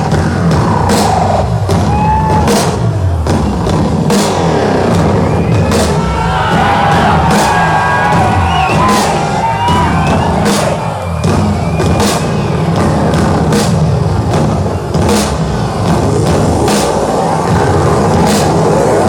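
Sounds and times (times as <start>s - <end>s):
drum and cymbal hits: 0.0s - 19.0s
hard rock band playing: 0.0s - 19.0s.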